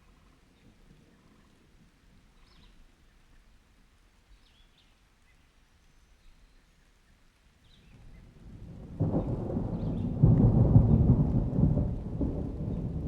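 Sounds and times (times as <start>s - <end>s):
low rumble of rain: 0.0s - 13.0s.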